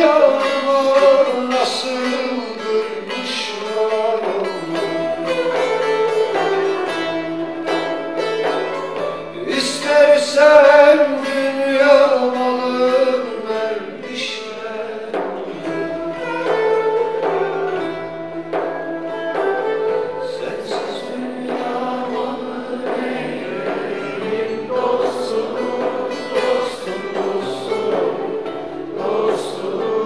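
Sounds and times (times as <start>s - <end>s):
man singing folk song: 0.0s - 30.0s
plucked lute accompaniment: 0.0s - 30.0s.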